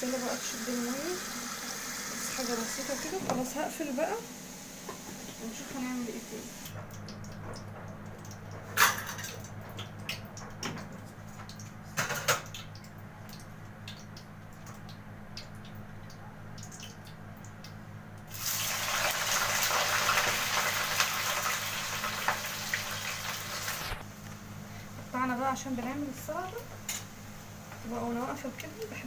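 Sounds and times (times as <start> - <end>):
water running: 0.0 - 24.1, 24.7 - 29.0.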